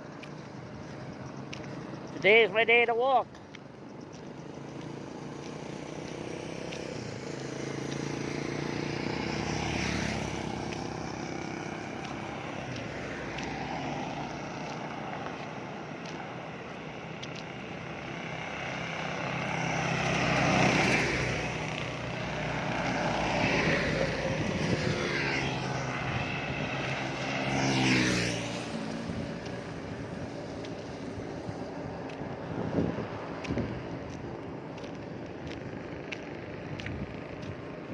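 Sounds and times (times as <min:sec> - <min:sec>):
motor vehicles passing: 0:00.0 - 0:37.9.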